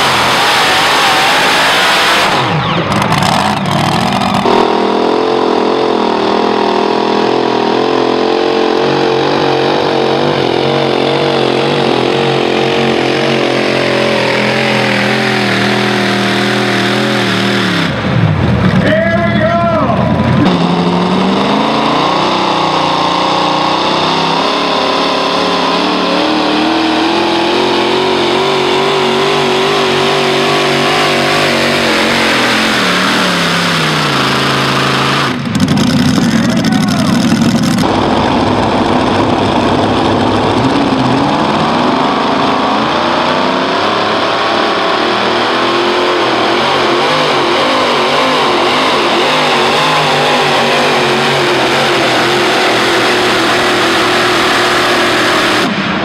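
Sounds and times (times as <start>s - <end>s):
tractor engines at full throttle: 0.0s - 56.0s.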